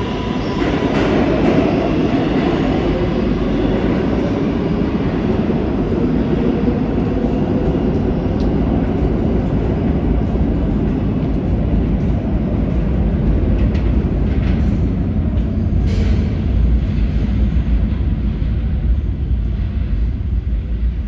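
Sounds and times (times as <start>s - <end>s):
subway train rumbling: 0.0s - 21.0s.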